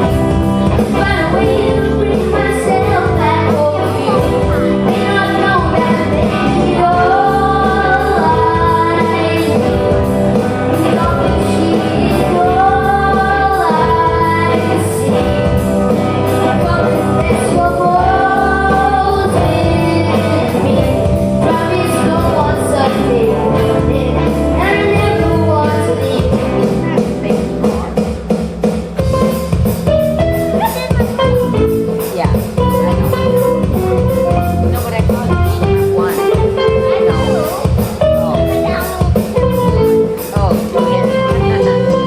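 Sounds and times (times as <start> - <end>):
lead vocalist singing: 0.0 - 28.0, 30.5 - 42.0
live rock band playing: 0.0 - 42.0.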